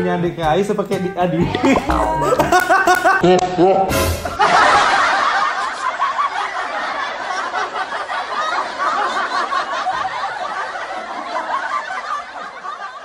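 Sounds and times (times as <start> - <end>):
people laughing together: 1.6 - 13.0.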